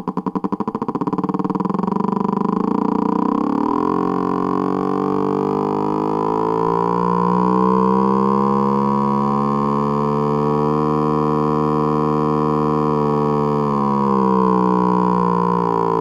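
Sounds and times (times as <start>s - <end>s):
simulated twin engine revving: 0.4s - 16.0s.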